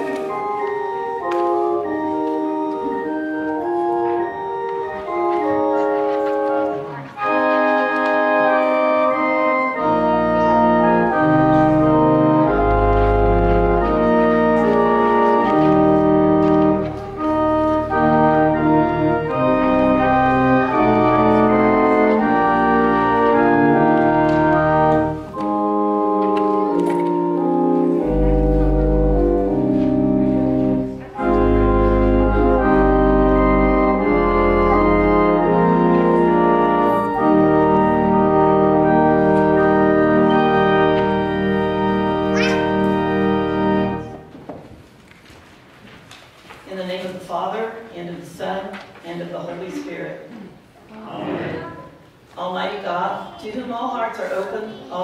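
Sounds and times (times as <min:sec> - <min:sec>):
pipe organ playing chords: 0:00.0 - 0:44.4.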